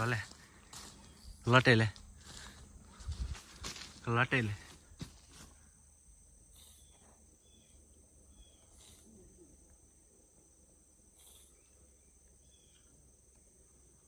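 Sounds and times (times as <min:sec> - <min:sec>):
crickets chorus: 0:00.0 - 0:14.0.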